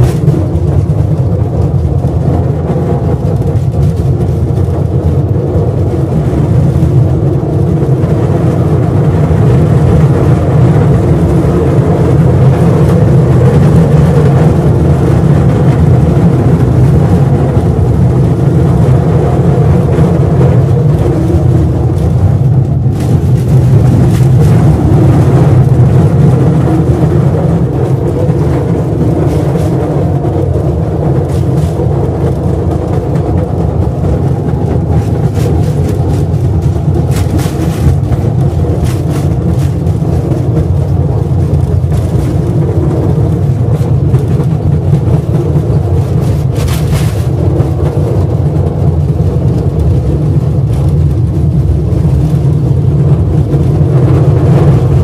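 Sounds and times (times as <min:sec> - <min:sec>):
mine train rumbling and rattling: 0:00.0 - 0:55.0.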